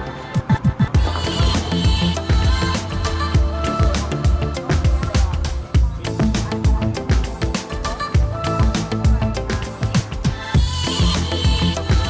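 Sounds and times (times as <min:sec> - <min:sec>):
punchy drum beat: 0:00.4 - 0:12.0
deep bass line: 0:00.9 - 0:12.0.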